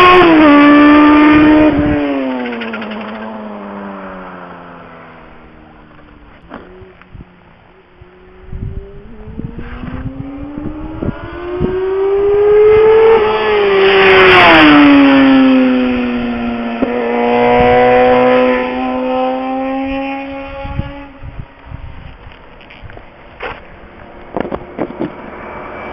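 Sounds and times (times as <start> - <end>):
small high-pitched engine passing: 0.0 - 5.8, 7.9 - 21.3, 24.0 - 25.9.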